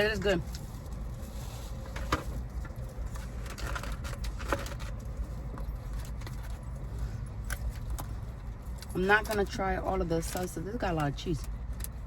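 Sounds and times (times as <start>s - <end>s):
clicks and rustles of eating: 0.4s - 12.0s.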